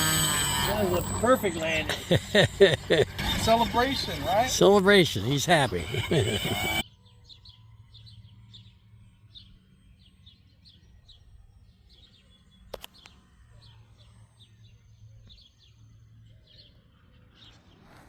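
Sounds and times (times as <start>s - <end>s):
bird chirping: 0.3s - 18.0s.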